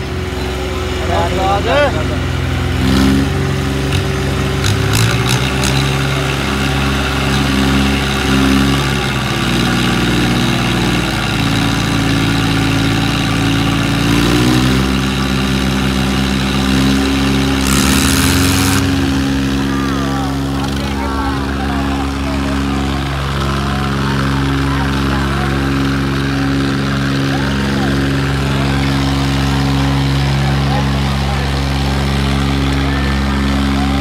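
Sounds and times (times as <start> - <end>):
diesel tractor engines under load: 0.0 - 34.0.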